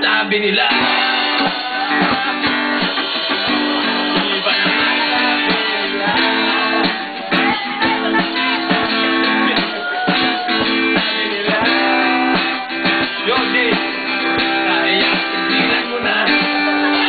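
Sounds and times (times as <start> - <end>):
acoustic guitar strumming chords: 0.0 - 17.0
man singing: 0.0 - 17.0.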